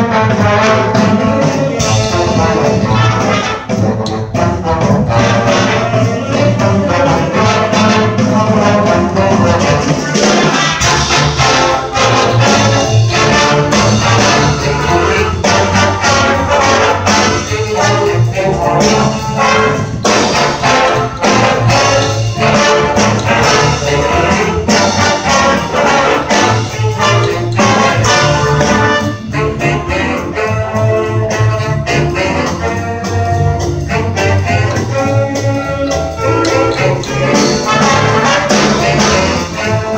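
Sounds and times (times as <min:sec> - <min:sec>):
guitar: 0:00.0 - 0:39.9
piano: 0:00.0 - 0:39.9
saxophones: 0:00.0 - 0:39.9
trombones: 0:00.0 - 0:39.9
trumpets: 0:00.0 - 0:39.9
walking bass line: 0:00.0 - 0:39.9.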